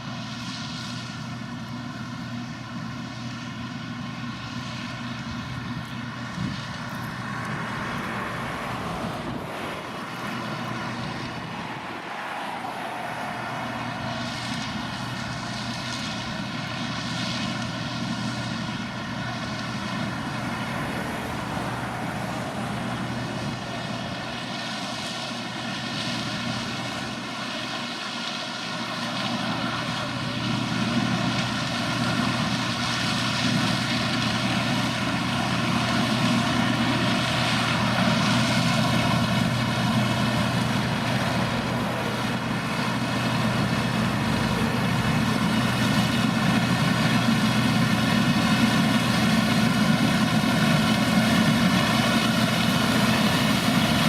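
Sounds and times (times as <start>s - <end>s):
farm machine engine droning: 0.0s - 54.0s.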